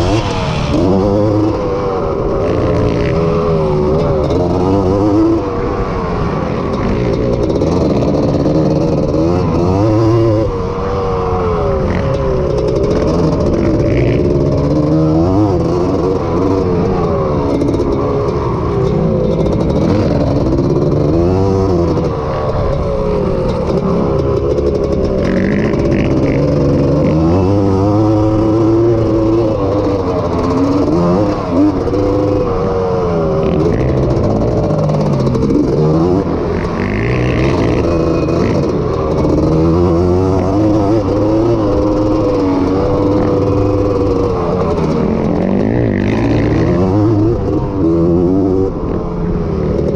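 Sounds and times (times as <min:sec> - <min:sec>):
two-stroke engine revving: 0:00.0 - 0:49.9.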